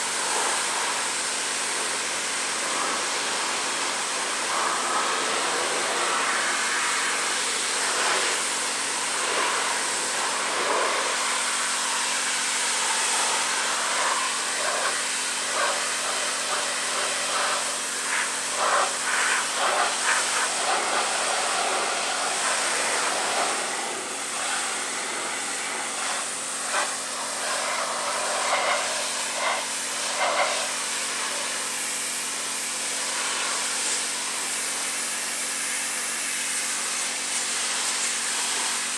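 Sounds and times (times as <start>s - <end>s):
pressure washer jet hissing: 0.0s - 38.9s.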